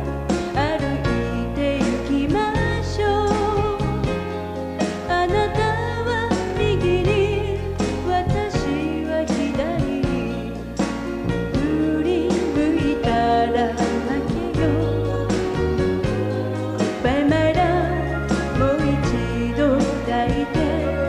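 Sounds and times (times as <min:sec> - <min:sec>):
pop backing music: 0:00.0 - 0:21.0
woman singing with vibrato: 0:00.5 - 0:04.2, 0:05.0 - 0:10.6, 0:11.5 - 0:21.0.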